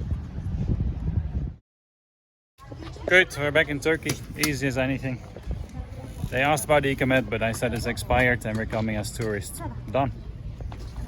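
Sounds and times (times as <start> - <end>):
wind buffeting microphone: 0.0 - 1.6, 2.6 - 11.0.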